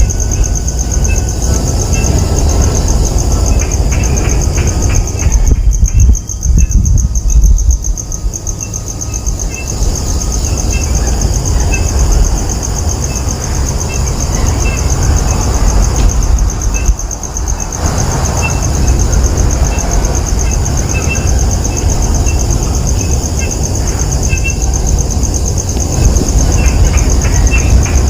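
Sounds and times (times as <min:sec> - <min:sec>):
insects trilling: 0:00.0 - 0:28.0
loud low rumble: 0:00.0 - 0:28.0.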